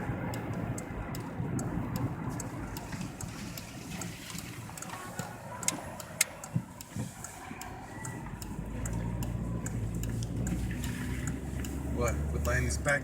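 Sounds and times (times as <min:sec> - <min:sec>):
engine and road rumble: 0:00.0 - 0:13.0
sharp clicks: 0:00.3 - 0:13.0.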